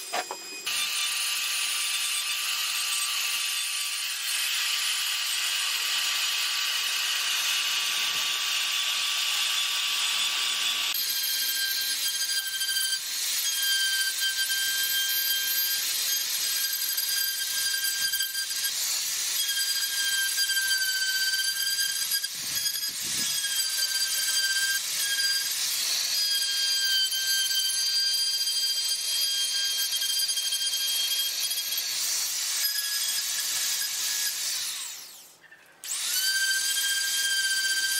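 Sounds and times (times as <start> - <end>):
rotary tool grinding wood: 0.0 - 37.9.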